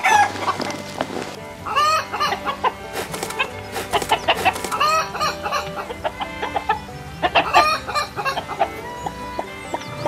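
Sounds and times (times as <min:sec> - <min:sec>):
chickens clucking and squawking: 0:00.0 - 0:10.0.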